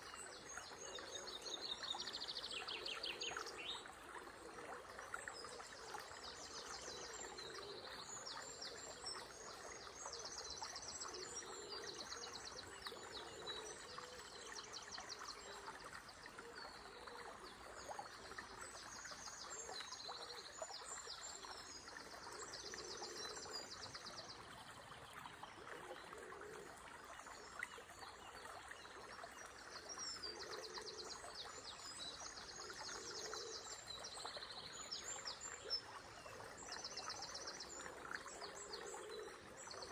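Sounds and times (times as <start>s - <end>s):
flowing water rushing: 0.0s - 39.9s
songbirds trilling and chirping: 0.0s - 39.9s.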